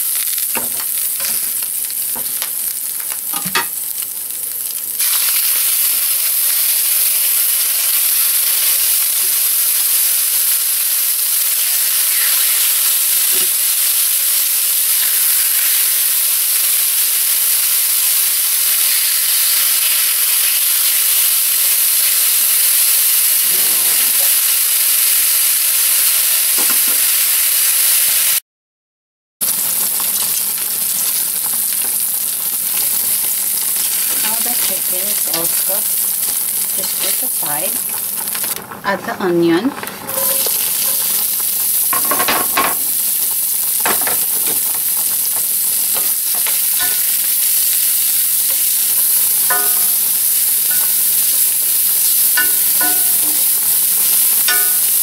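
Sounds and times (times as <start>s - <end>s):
meat sizzling in hot oil: 0.0s - 28.4s, 29.4s - 38.8s, 40.0s - 55.0s.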